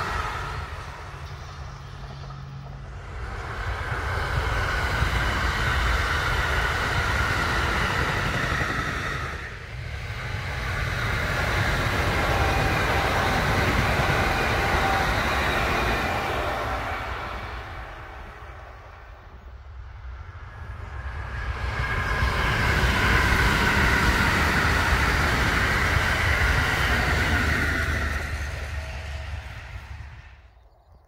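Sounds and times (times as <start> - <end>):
electric trains passing: 0.0 - 31.0.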